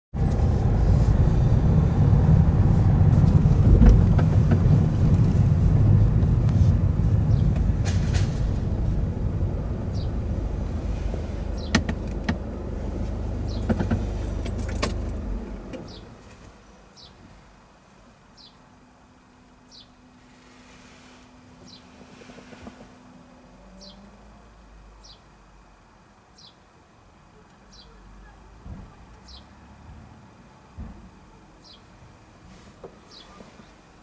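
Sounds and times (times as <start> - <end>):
car engine and road noise: 0.1 - 34.0.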